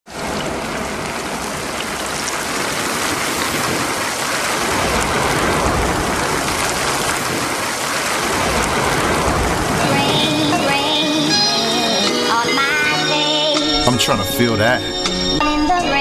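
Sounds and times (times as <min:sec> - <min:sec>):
heavy rain: 0:00.1 - 0:16.0.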